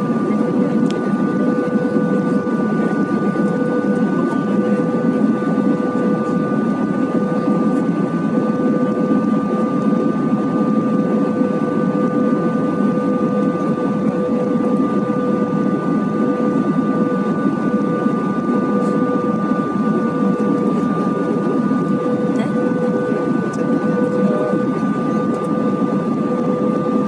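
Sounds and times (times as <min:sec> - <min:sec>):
aircraft cabin engine and airflow noise: 0:00.0 - 0:27.0
constant whining tones: 0:00.0 - 0:27.0.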